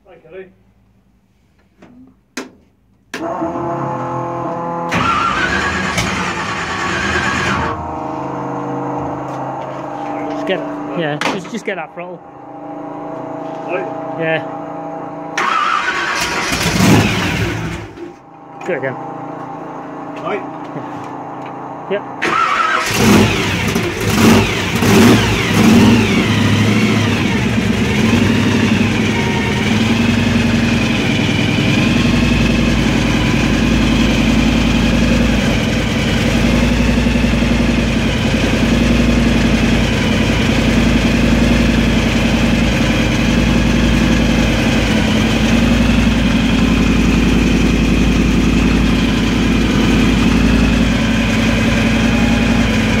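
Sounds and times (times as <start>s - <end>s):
car engine idling: 4.6s - 53.0s.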